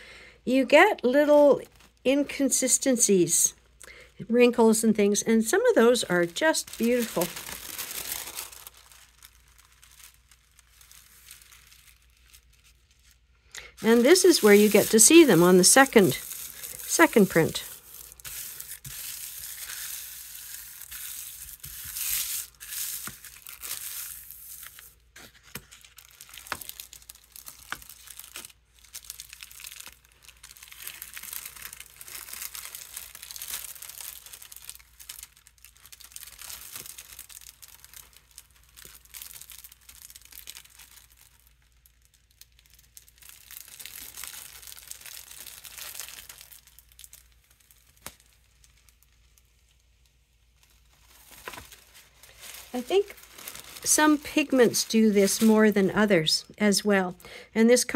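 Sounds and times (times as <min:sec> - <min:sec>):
tissue paper crinkling: 0:04.5 - 0:57.0.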